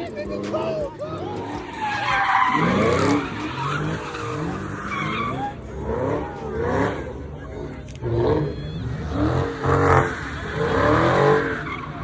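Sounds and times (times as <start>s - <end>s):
car engine revving: 0.0s - 12.0s
tyres squealing and skidding: 0.0s - 12.0s.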